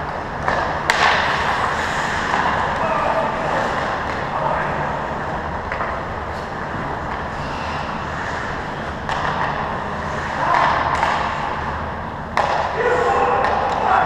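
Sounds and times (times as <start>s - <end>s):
indoor ice rink hum: 0.0s - 14.0s.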